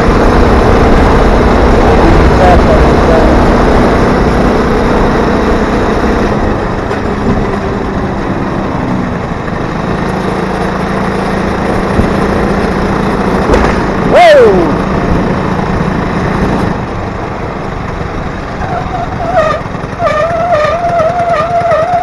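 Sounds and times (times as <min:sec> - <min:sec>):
two-stroke engine running: 0:00.0 - 0:22.0.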